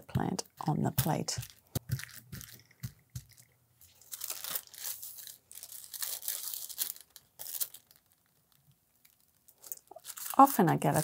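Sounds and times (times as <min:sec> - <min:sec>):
tissue paper crinkling and peeling: 0:01.4 - 0:11.0.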